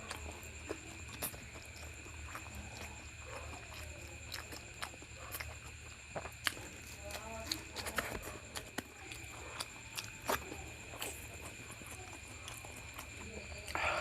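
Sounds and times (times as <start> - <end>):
chewing with mouth clicks: 0.0 - 14.0.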